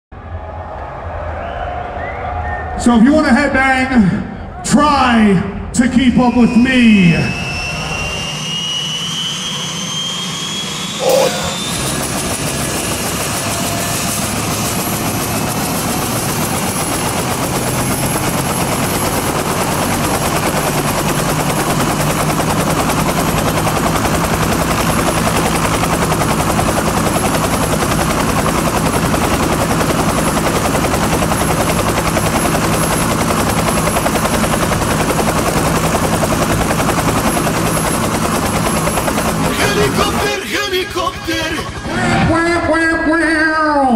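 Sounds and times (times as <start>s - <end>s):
helicopter rotor and engine: 2.8s - 43.9s.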